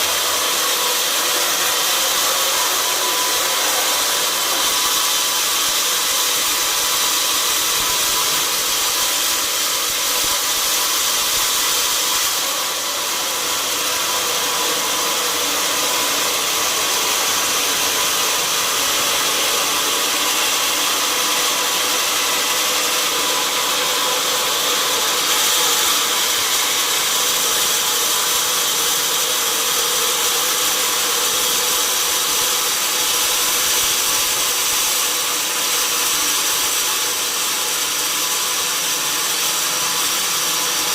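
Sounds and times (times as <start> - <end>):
sawmill saw cutting wood: 0.0 - 40.9.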